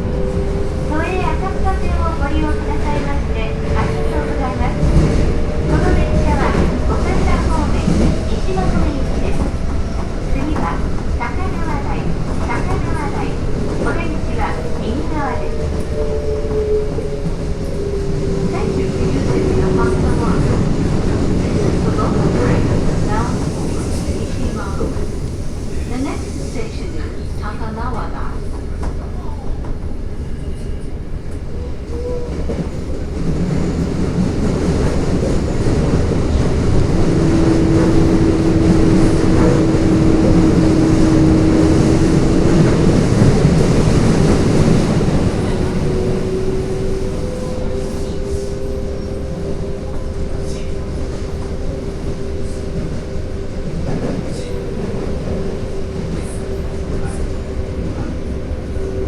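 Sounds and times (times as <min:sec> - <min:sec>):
subway train rumbling on rails: 0:00.0 - 0:59.0.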